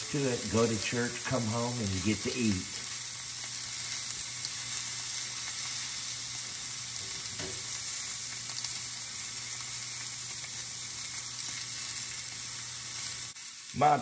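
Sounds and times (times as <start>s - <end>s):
meat sizzling in a skillet: 0.0s - 14.0s.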